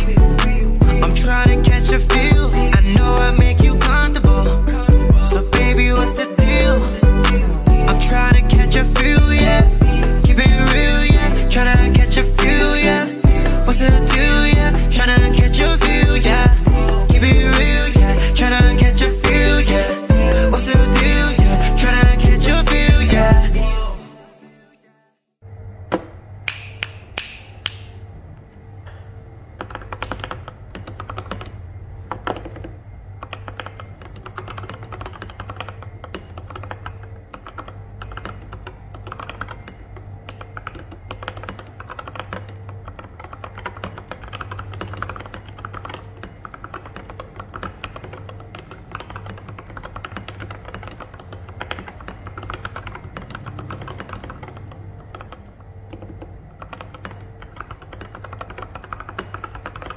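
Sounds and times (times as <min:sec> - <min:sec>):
sharp keyboard clicks: 0:00.0 - 0:23.1, 0:29.6 - 0:59.9
mechanical keyboard typing: 0:00.0 - 0:23.6, 0:29.6 - 0:59.9.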